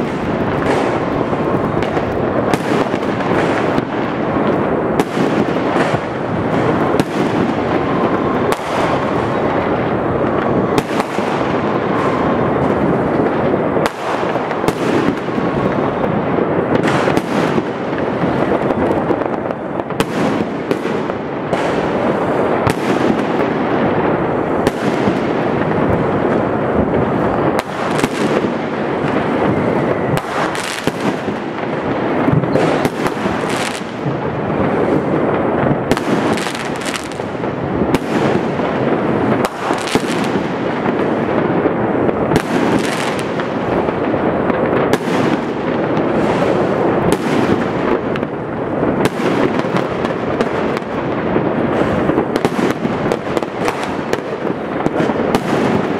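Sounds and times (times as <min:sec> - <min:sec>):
firecracker bangs: 0:00.0 - 0:55.9
fireworks crackling: 0:00.0 - 0:55.9.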